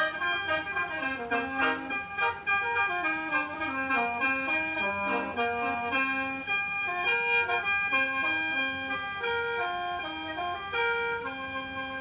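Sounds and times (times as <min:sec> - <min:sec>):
mouth organ melody over drone: 0:00.0 - 0:12.0.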